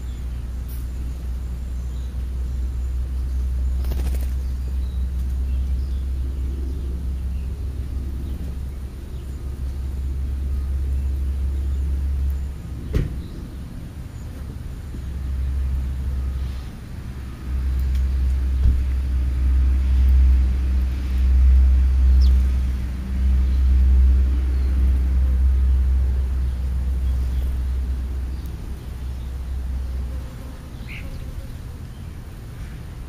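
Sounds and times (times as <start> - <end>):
low engine rumble: 0.0 - 33.0
small birds chirping: 0.0 - 33.0.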